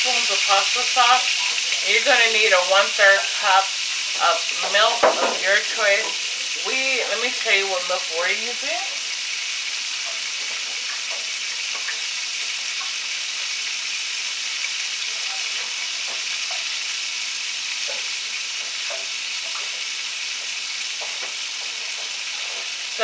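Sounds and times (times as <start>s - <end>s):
butter sizzling in a pan: 0.0s - 23.0s.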